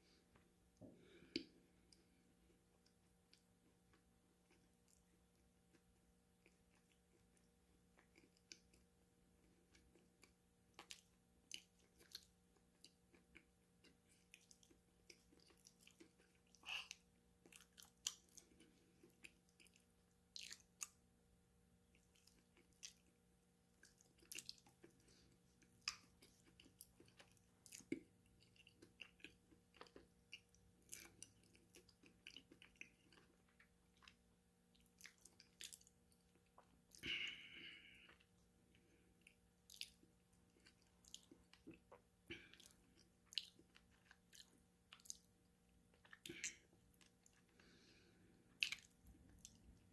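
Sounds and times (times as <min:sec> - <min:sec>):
soft chewing: 0:00.0 - 0:21.2, 0:21.8 - 0:49.9
faint steady hum: 0:00.0 - 0:49.9.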